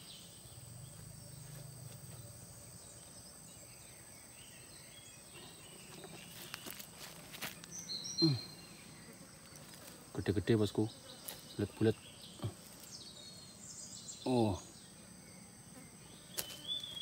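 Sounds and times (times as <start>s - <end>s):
faint insect buzz: 0.0s - 17.0s.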